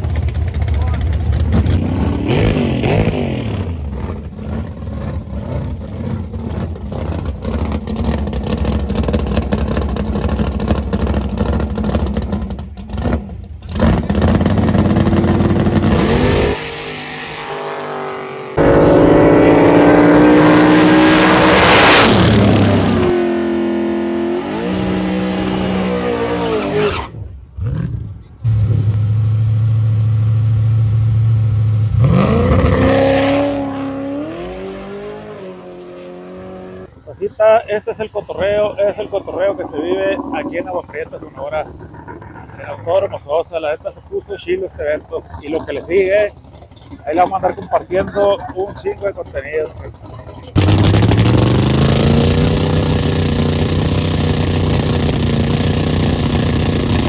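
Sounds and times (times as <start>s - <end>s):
engine accelerating hard: 0.0s - 57.0s
racing car engines idling and revving: 0.0s - 57.0s.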